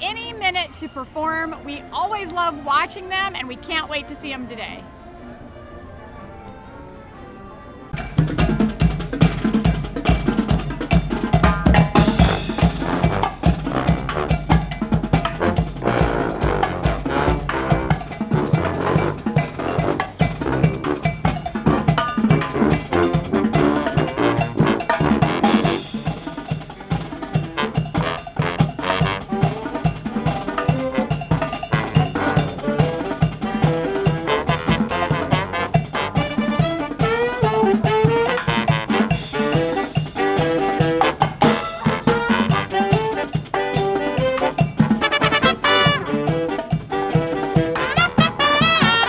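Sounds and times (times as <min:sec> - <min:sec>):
brass instruments: 0:01.6 - 0:49.0
marching band playing: 0:07.9 - 0:49.0
snare and bass drums: 0:08.0 - 0:49.0.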